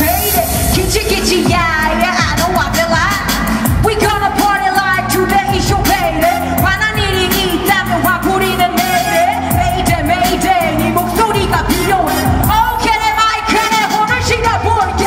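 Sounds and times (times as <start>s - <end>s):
live pop band playing: 0.0s - 15.0s
woman singing with vibrato: 0.0s - 15.0s.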